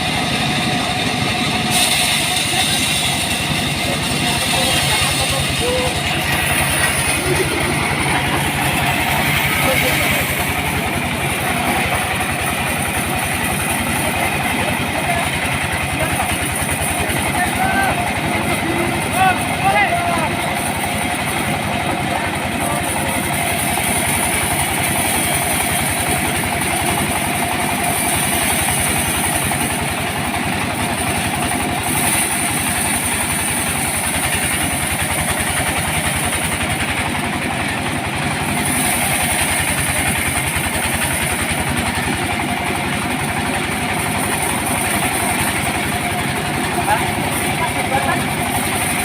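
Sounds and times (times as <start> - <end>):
sawmill engine running: 0.0 - 49.0.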